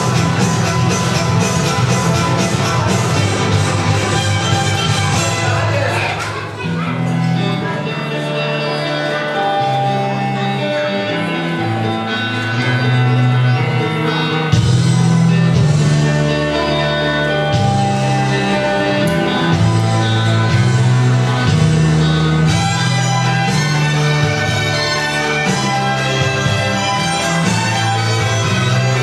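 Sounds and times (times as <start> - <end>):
music with prominent bass line: 0.0 - 29.0.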